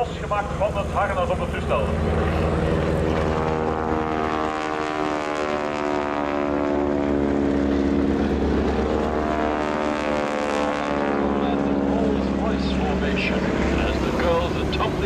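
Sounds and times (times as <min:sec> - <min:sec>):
biplane radial engine droning: 0:00.0 - 0:15.0.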